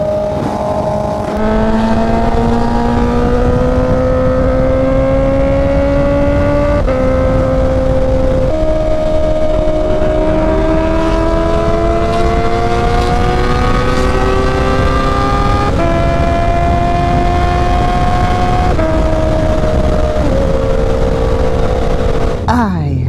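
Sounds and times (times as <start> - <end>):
motorcycle engine under throttle: 0.0 - 22.5
wind rushing on microphone: 0.0 - 22.5.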